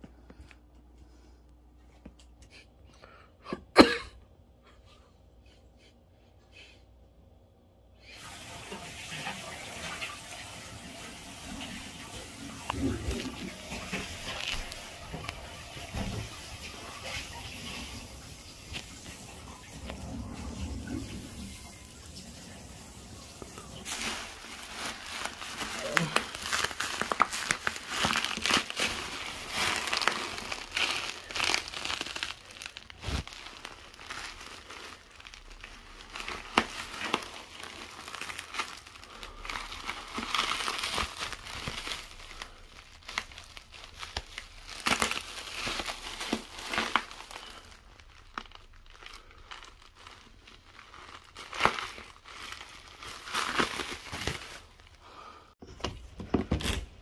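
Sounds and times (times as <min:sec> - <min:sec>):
bubble wrap crinkling: 0:08.0 - 0:55.4.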